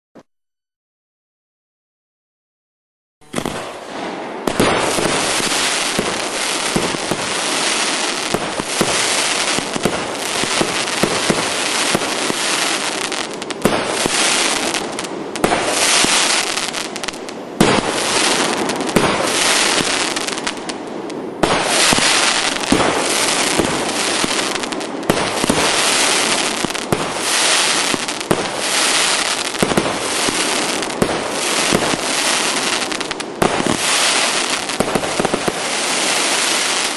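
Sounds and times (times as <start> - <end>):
fireworks popping and crackling: 3.2 - 36.9.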